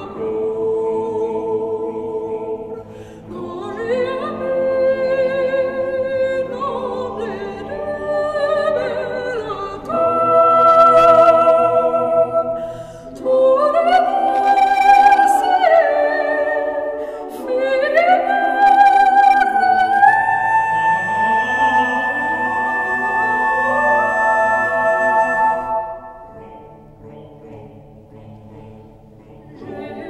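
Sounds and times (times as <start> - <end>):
choral singing: 0.0 - 30.0.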